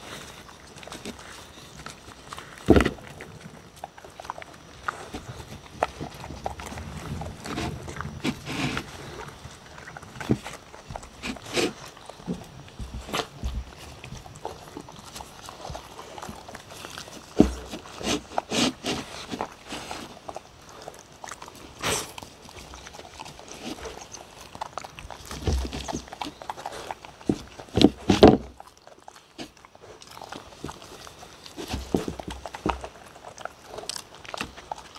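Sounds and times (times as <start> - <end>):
dogs licking and chewing: 0.0 - 34.9.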